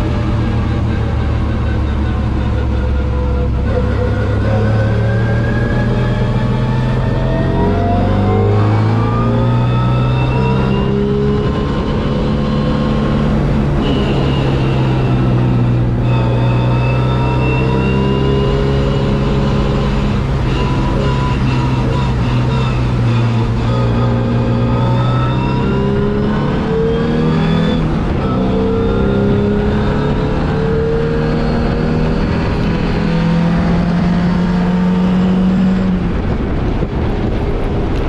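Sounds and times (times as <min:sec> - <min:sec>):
racing car engine revving: 0:00.0 - 0:38.0.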